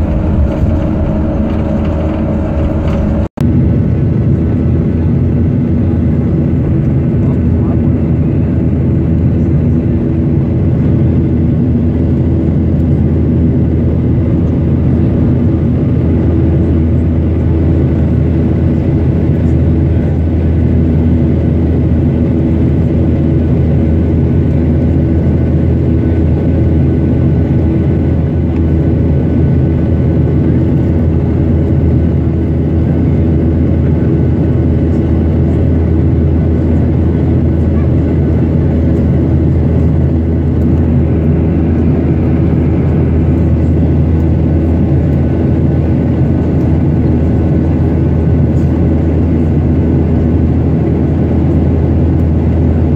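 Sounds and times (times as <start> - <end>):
low engine drone: 0.0 - 52.9.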